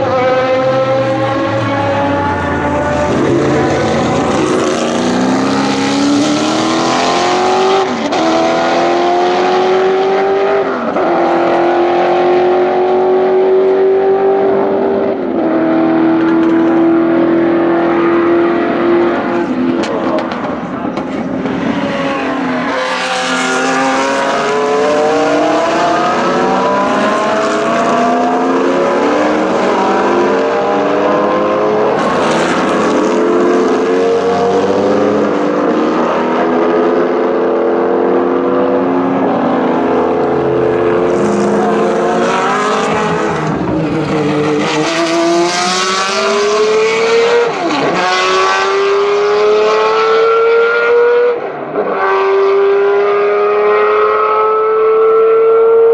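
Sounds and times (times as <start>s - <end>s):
racing cars accelerating: 0.0s - 55.9s.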